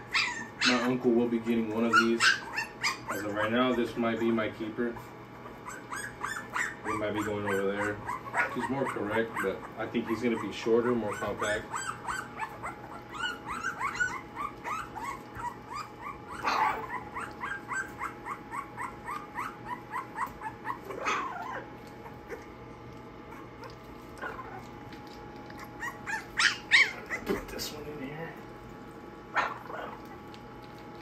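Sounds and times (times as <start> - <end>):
puppies whining and squealing: 0.0 - 27.8.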